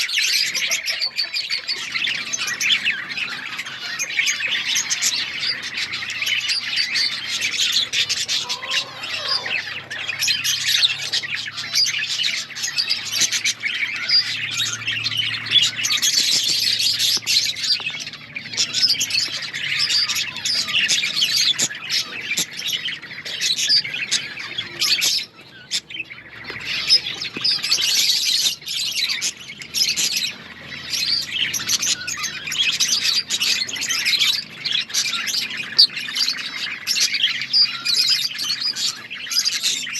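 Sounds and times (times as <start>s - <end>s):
bird squawks: 0.0s - 39.9s
budgerigars chirping: 0.0s - 39.9s.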